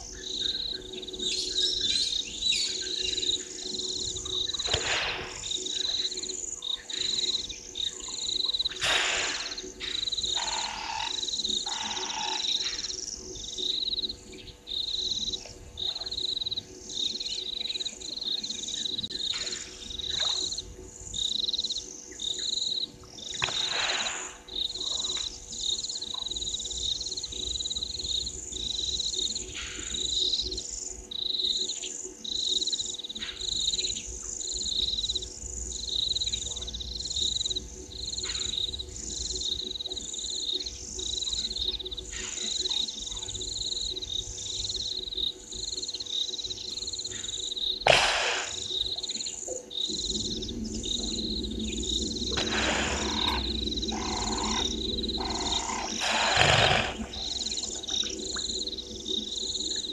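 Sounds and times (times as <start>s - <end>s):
frogs and insects calling: 0.0s - 59.9s.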